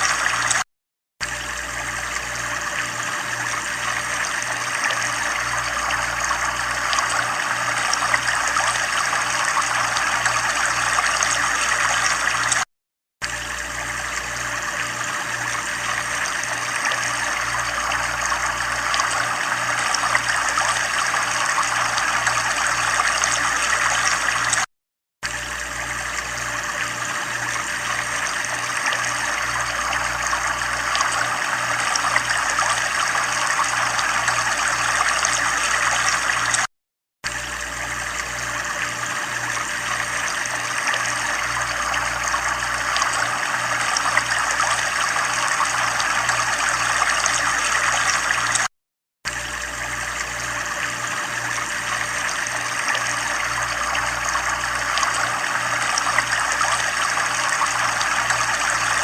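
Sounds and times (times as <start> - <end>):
running water trickling: 1.2 - 36.7, 37.3 - 48.7, 49.3 - 59.0.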